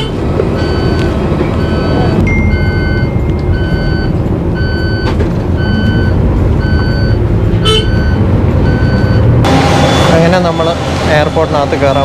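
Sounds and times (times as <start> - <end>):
bus engine rumble: 0.0 - 12.0
vehicle warning beeps: 0.0 - 12.0.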